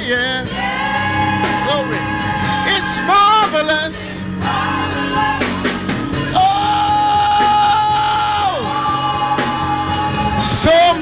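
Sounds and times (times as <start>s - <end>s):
keyboard accompaniment: 0.0s - 11.0s
gospel choir singing: 0.4s - 11.0s.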